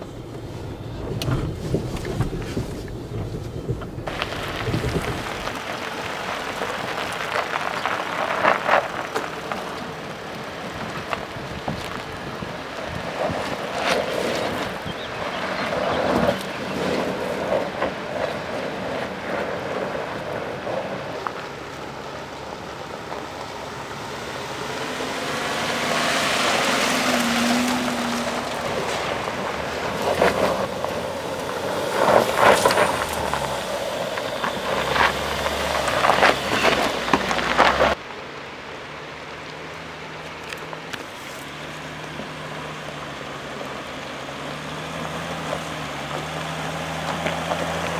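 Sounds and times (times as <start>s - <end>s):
car engine running: 0.0s - 47.9s
tyres crunching over stones: 0.2s - 38.0s, 39.4s - 47.9s.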